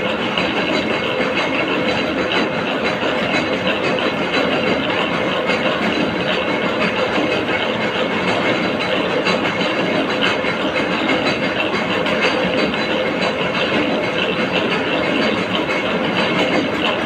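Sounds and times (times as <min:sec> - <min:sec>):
machine tool metallic clatter: 0:00.0 - 0:17.0.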